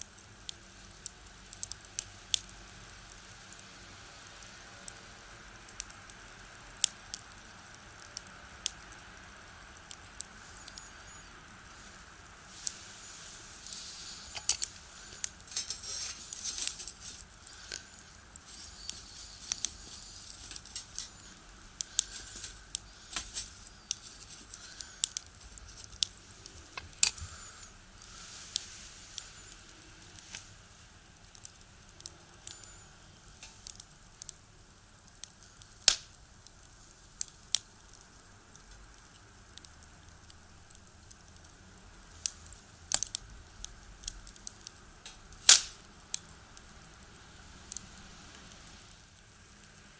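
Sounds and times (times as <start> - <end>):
firewood crackling and popping: 0.0 - 49.9
soft hissing of burning wood: 0.0 - 49.9.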